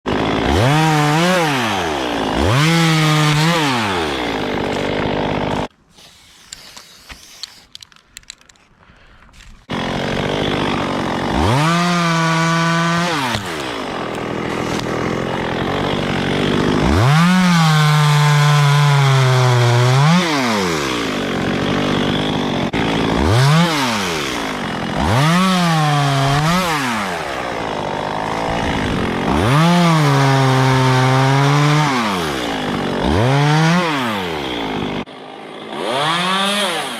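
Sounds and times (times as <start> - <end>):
chainsaw revving: 0.1 - 5.7, 9.6 - 36.9.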